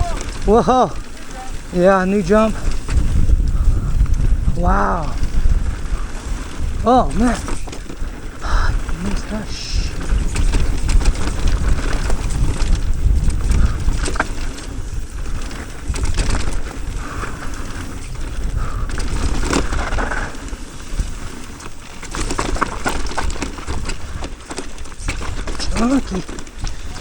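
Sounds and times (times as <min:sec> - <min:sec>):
bike rattling clicks and knocks: 0:00.0 - 0:27.0
tyres on dirt: 0:00.0 - 0:27.0
wind rushing over microphone: 0:00.0 - 0:27.0.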